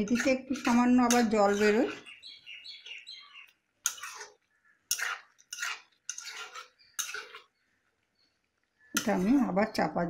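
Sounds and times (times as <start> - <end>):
spatula scraping metal pan: 0.0 - 7.7, 8.9 - 9.7.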